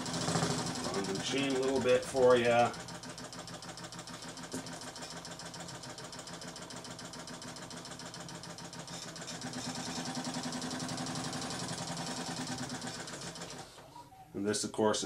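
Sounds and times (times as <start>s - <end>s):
sewing machine running: 0.0s - 13.8s.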